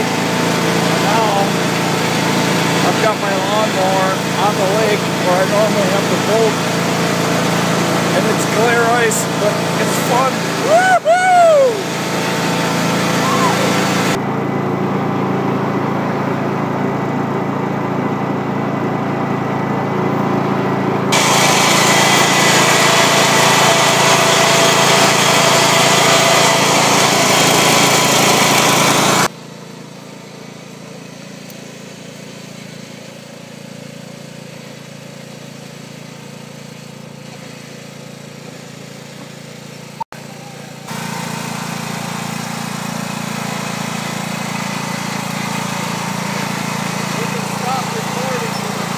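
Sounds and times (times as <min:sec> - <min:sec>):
lawn tractor engine running: 0:00.0 - 0:48.9.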